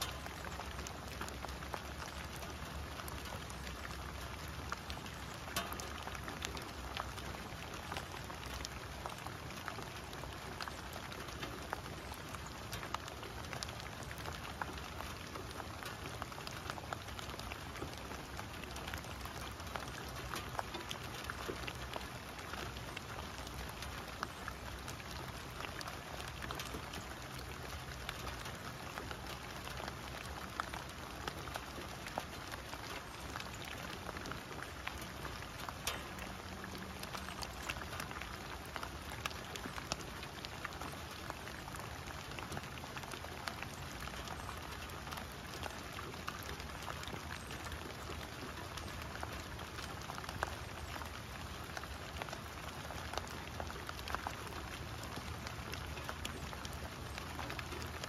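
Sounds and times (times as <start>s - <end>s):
rain on leaves and grass: 0.0s - 58.0s.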